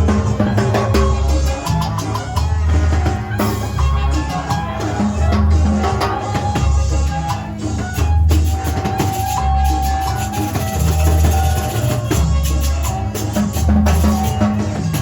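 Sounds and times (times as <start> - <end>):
latin dance music: 0.0 - 15.0.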